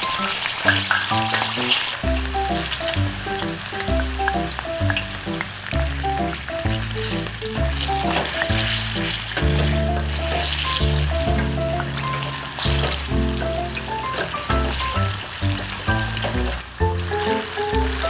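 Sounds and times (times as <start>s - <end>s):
light melodic tune with bass: 0.0s - 18.0s
oil bubbling and sizzling: 0.0s - 18.0s.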